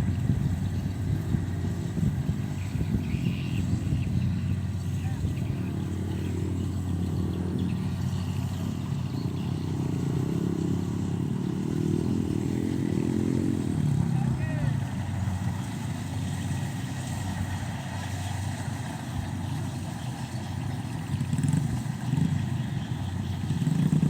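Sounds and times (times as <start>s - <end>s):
harvester engine running: 0.0s - 24.0s.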